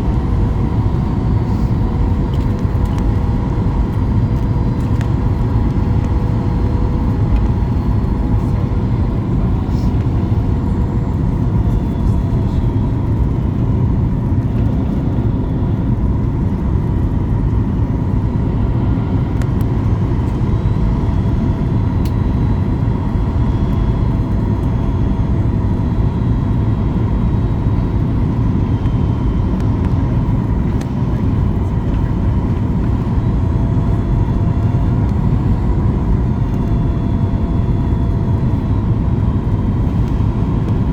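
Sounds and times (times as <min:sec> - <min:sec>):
airliner cabin roar: 0:00.0 - 0:40.9.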